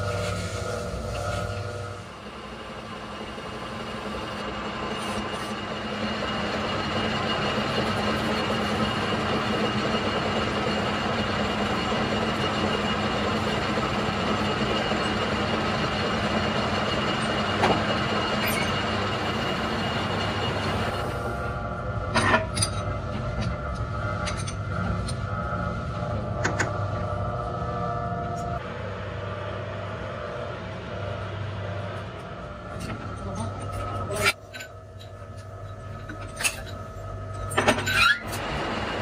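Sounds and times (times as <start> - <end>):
metal lathe running: 0.0 - 39.0.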